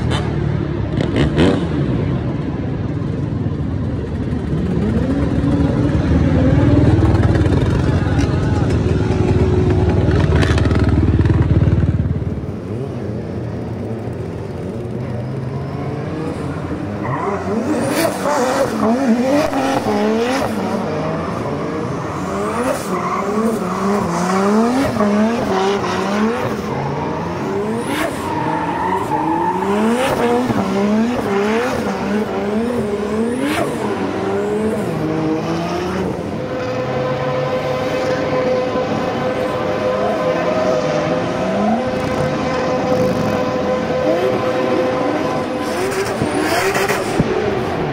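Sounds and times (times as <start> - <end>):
racing engine revving: 4.3 - 47.9.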